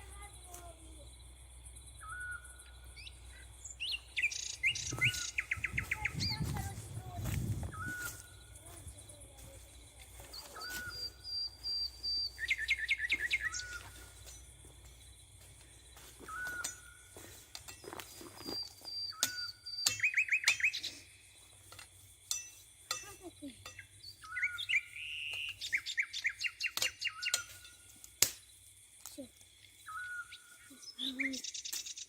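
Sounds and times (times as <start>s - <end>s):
birds singing: 1.8s - 28.6s, 29.6s - 32.0s.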